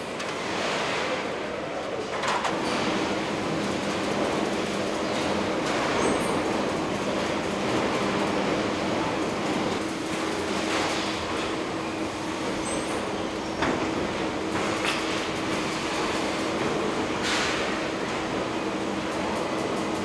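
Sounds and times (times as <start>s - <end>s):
steady machine hum: 0.0s - 20.0s
mechanical clatter and hiss: 0.1s - 20.0s.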